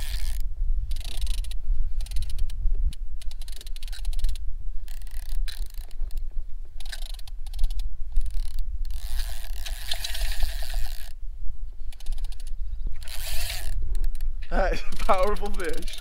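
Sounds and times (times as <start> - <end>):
fishing reel ratchet clicking: 0.0 - 6.2, 6.8 - 11.2, 11.8 - 14.3, 15.0 - 16.0.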